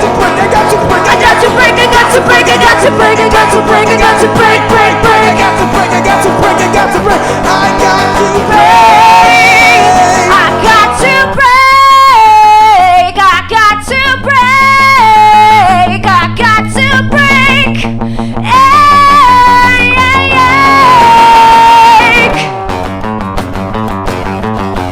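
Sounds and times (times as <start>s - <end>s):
person singing: 0.0s - 22.5s
acoustic guitar: 0.0s - 24.9s.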